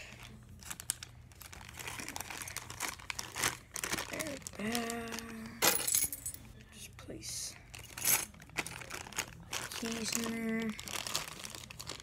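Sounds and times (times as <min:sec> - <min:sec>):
packaging crinkling: 0:00.2 - 0:05.6, 0:07.7 - 0:12.0.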